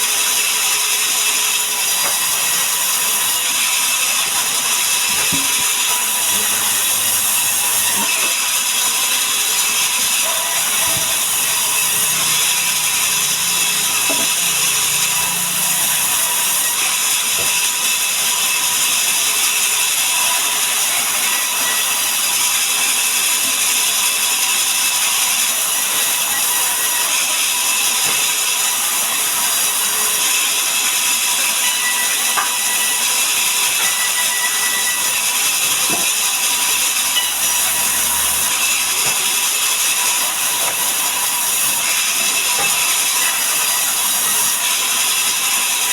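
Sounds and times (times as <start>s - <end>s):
sawmill saw cutting timber: 0.0s - 45.9s.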